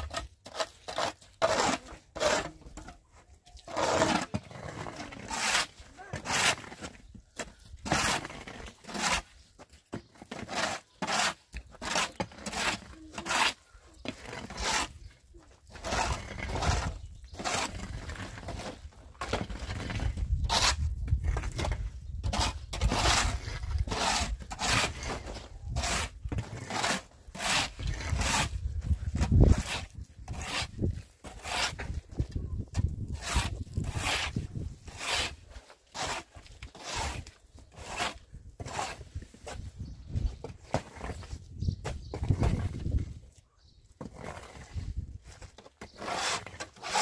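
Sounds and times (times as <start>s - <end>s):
shovel scraping wet mud: 0.0s - 2.8s, 3.6s - 9.4s, 10.2s - 15.0s, 15.6s - 32.0s, 32.8s - 39.6s, 45.9s - 47.0s.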